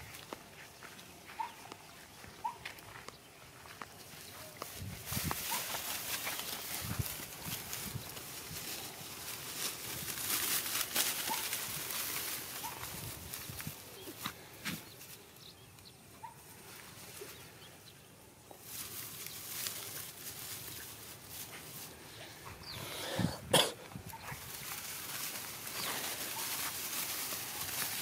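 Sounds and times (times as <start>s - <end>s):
straw rustling: 0.0s - 15.4s, 16.2s - 28.0s.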